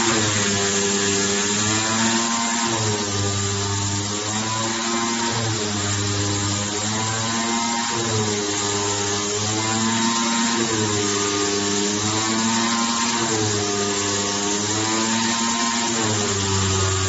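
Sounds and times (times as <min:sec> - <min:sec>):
cutting machine hum and hiss: 0:00.0 - 0:17.0
motor whine: 0:00.0 - 0:17.0.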